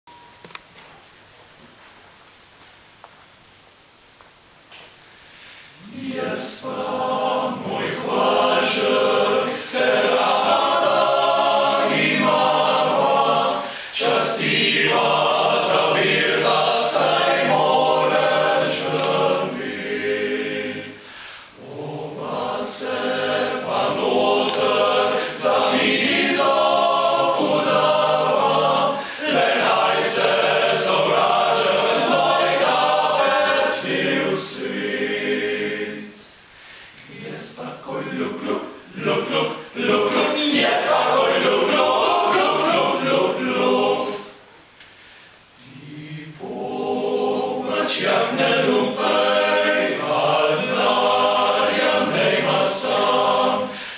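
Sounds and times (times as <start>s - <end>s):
male choir singing a cappella: 5.8s - 36.3s, 36.9s - 44.4s, 45.6s - 53.9s.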